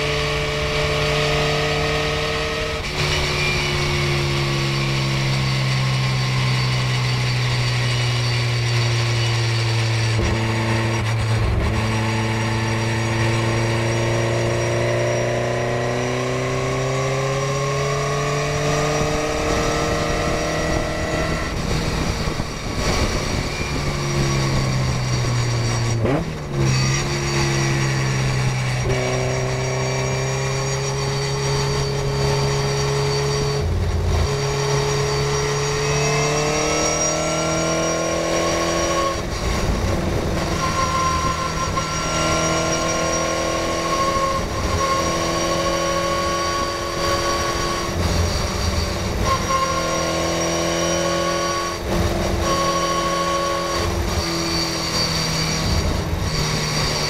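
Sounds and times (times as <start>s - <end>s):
race car engine: 0.0s - 57.0s
wind noise: 0.0s - 57.0s.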